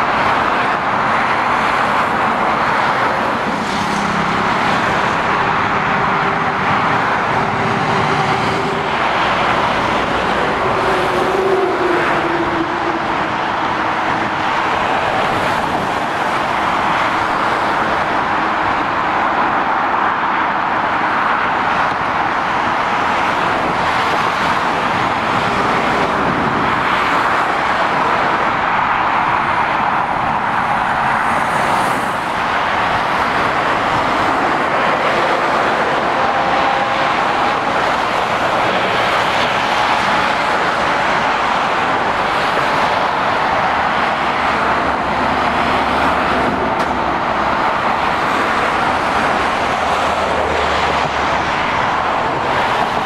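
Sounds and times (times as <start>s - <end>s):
diesel engine noise: 0.0s - 53.0s.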